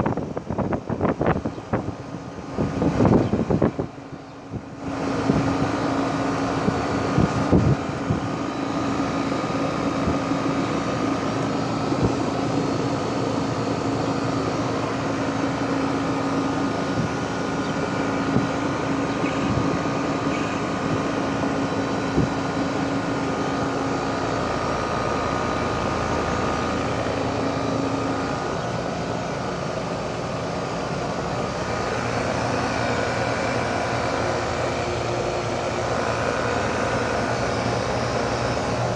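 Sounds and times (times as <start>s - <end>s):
compressor humming: 0.0s - 38.9s
fan blowing air: 0.0s - 38.9s.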